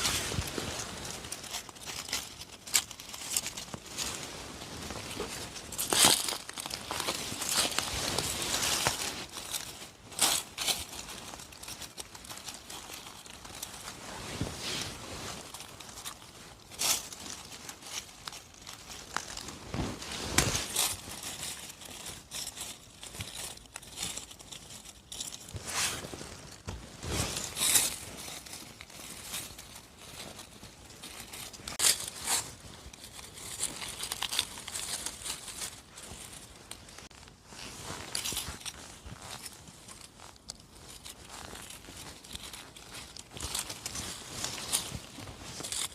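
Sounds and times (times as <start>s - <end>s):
rustling of forest-floor litter: 0.0s - 45.9s
sharp crackles and snaps: 0.0s - 45.9s.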